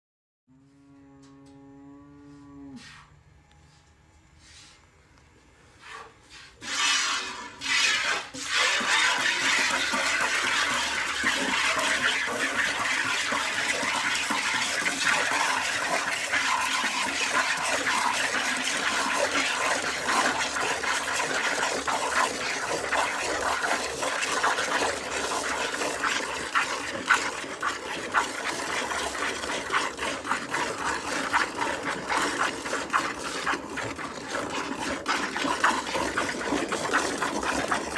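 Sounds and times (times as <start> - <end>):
milk squirting into a bucket: 6.3 - 37.9.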